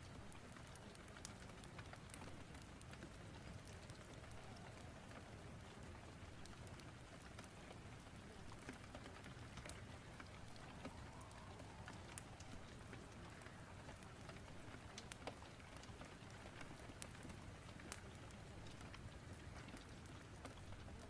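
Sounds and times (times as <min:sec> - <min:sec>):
faint rain hiss: 0:00.0 - 0:21.0
wood fire crackling: 0:00.0 - 0:21.0.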